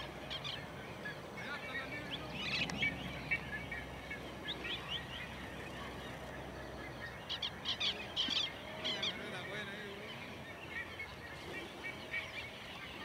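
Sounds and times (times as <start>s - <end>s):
birds calling sharply: 0.0s - 13.0s.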